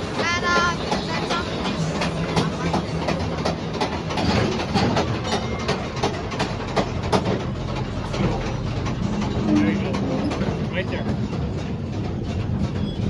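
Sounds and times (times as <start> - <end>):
train rumble: 0.0 - 13.0
train wheels clicking over rail joints: 0.0 - 13.0.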